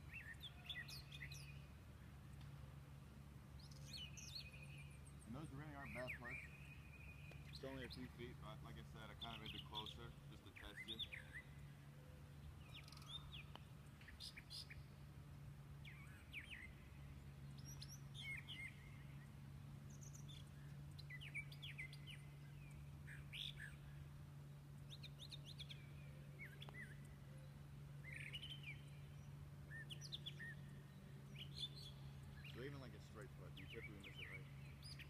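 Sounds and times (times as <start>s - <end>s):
birds chirping: 0.0s - 35.0s
faint low hum: 0.0s - 35.0s.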